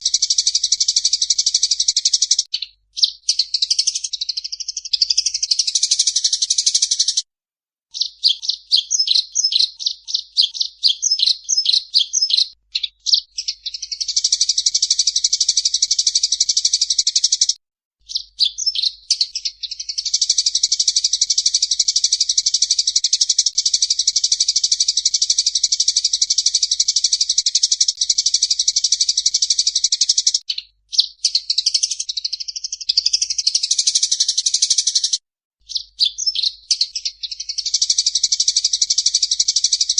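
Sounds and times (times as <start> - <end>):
songbird song with rapid trills: 0.0 - 7.2, 7.9 - 39.9.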